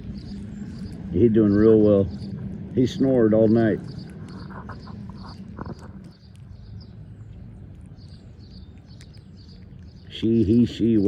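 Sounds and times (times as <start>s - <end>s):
squirrel chewing: 0.0s - 11.0s.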